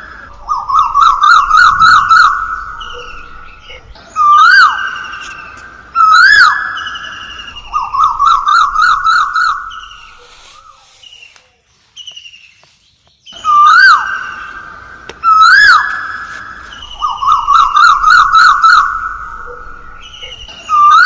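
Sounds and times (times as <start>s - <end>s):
siren swooping and warbling: 0.0s - 10.6s, 13.4s - 21.0s.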